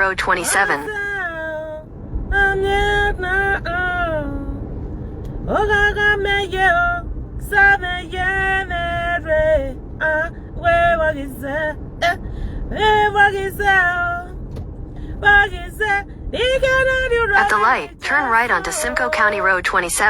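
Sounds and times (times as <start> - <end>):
car driving rumble: 0.0 - 20.0
woman singing unaccompanied: 0.4 - 4.6, 5.5 - 14.3, 15.2 - 20.0.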